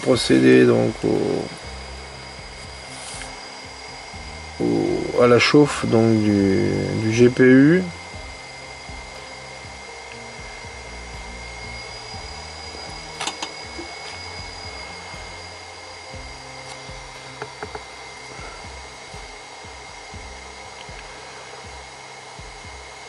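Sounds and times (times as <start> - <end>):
soldering station whirring hum: 0.0 - 23.0.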